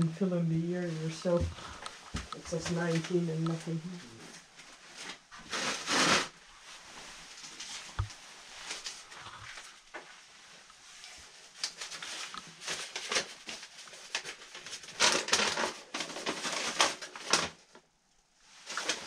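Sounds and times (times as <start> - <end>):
paper rustling and crackling: 0.8 - 17.9, 18.5 - 19.0.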